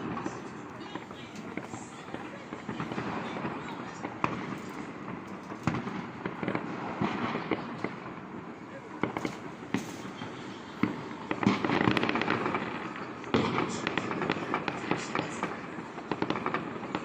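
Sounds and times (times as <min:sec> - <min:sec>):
fireworks cracking and popping: 0:00.0 - 0:17.0.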